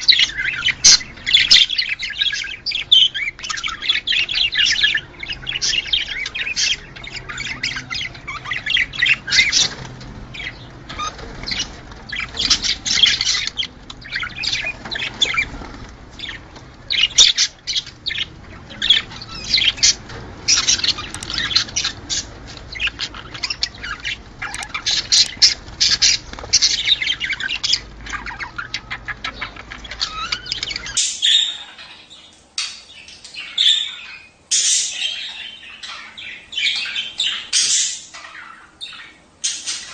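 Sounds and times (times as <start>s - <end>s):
faint low hum: 0.0s - 34.2s
budgerigars chattering: 0.0s - 39.9s.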